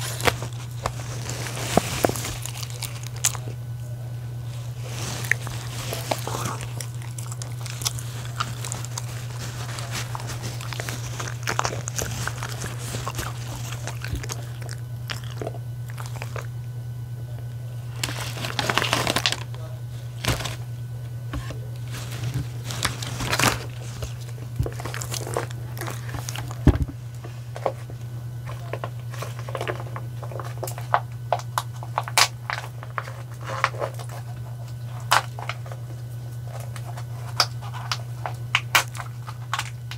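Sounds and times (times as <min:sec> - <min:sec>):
dogs chewing and crunching food: 0:00.0 - 0:39.9
steady low hum: 0:00.0 - 0:39.9.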